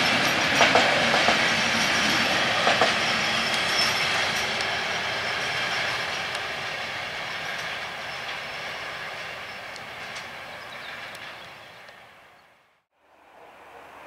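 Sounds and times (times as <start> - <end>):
freight train rolling past: 0.0 - 12.4.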